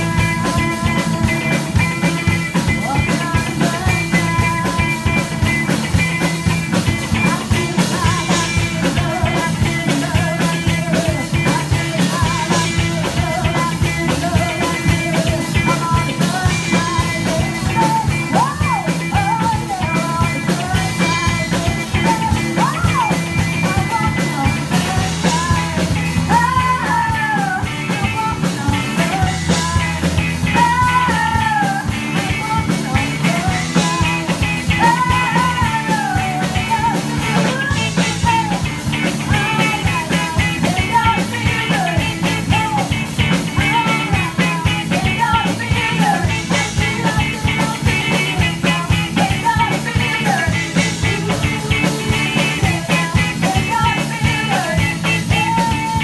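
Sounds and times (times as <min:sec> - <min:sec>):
drum kit steady beat: 0:00.0 - 0:56.0
electric guitars: 0:00.0 - 0:56.0
live rock band playing: 0:00.0 - 0:56.0
woman singing lead vocals: 0:00.0 - 0:56.0.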